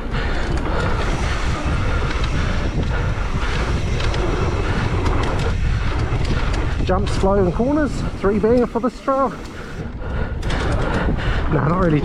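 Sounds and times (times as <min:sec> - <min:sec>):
bike rumbling on dirt trail: 0:00.0 - 0:12.0
wind buffeting microphone: 0:00.0 - 0:12.0.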